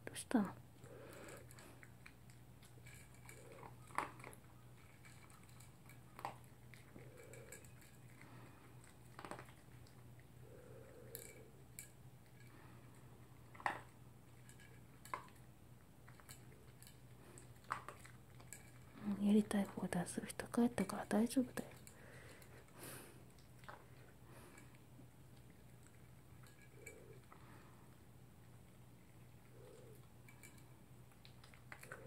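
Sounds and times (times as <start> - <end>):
faint low hum: 0.0 - 32.0
dog chewing: 0.6 - 32.0.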